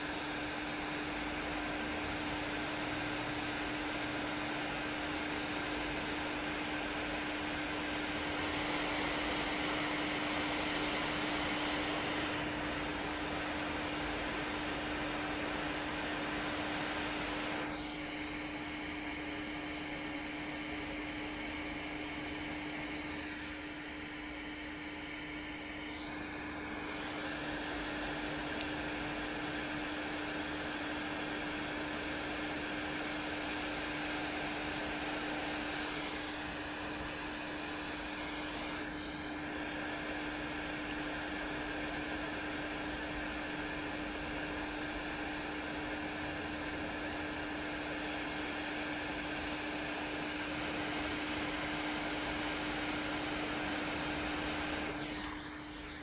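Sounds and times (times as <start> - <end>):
hot-air station blowing: 0.0 - 56.0.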